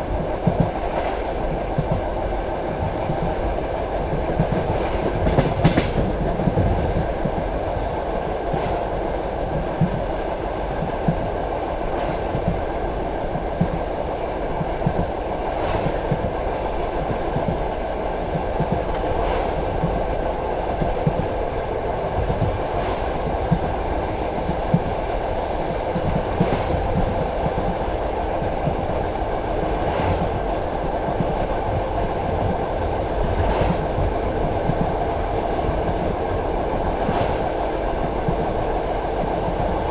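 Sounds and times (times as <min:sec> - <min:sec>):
train carriage rumbling: 0:00.0 - 0:39.9.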